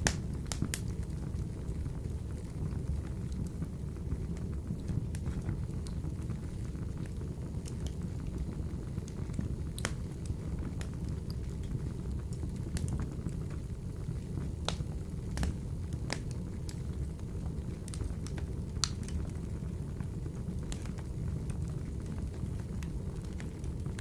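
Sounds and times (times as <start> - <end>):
fire crackles and pops: 0.0 - 24.0
low rumble of flames: 0.0 - 24.0.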